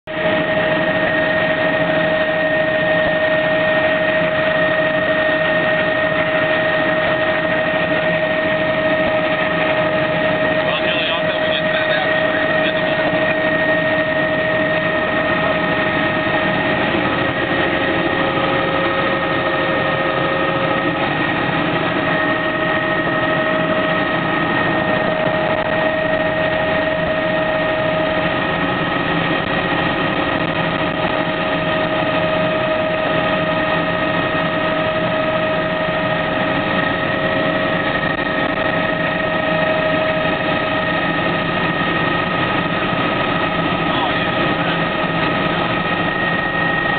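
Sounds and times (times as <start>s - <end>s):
helicopter engine and rotor drone: 0.0s - 46.9s.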